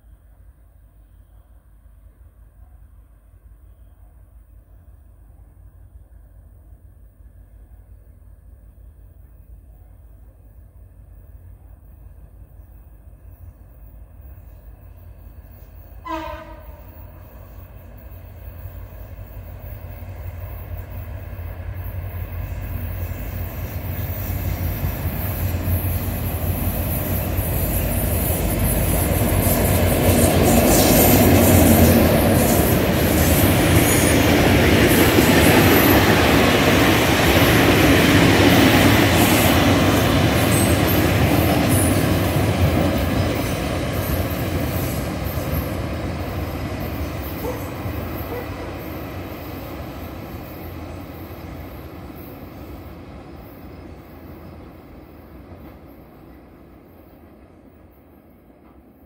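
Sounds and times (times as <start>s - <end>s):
diesel locomotive passing: 4.3s - 59.0s.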